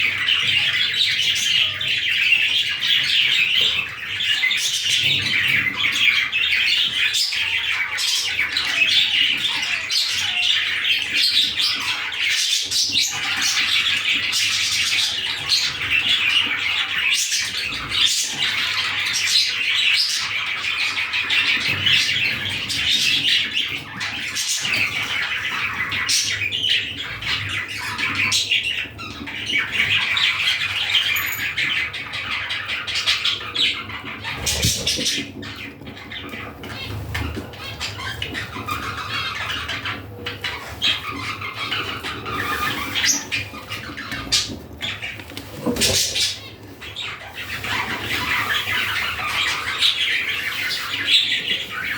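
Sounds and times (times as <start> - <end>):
budgerigar chattering and warbling: 0.0 - 51.9.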